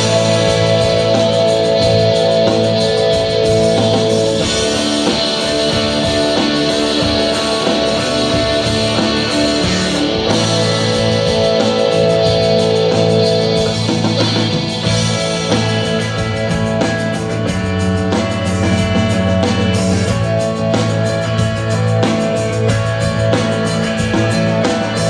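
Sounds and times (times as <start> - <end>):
bass: 0.0 - 25.0
drums: 0.0 - 25.0
sustained electric guitar chords: 0.0 - 25.0.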